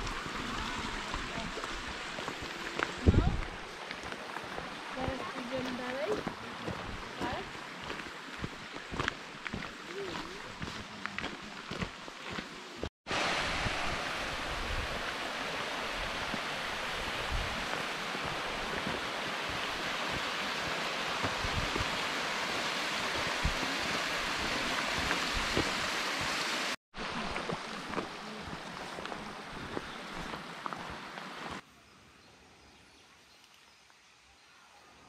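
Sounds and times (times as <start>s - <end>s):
stream rushing over rocks: 0.0s - 31.6s.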